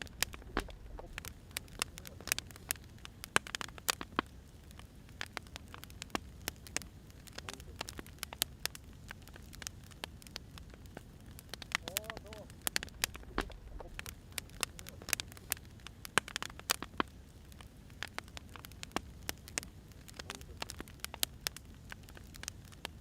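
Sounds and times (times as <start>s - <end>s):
burning wood popping: 0.0s - 23.0s
fire low rumble: 0.0s - 23.0s.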